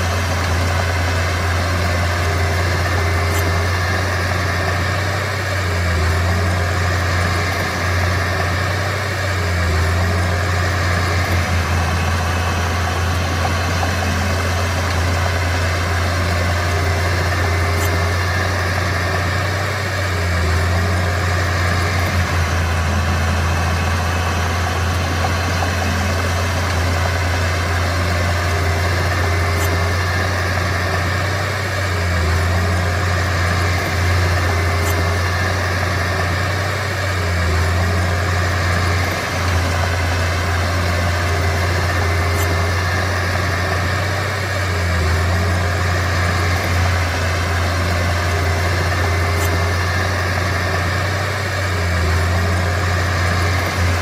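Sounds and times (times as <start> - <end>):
bulldozer diesel engine droning: 0.0 - 54.0.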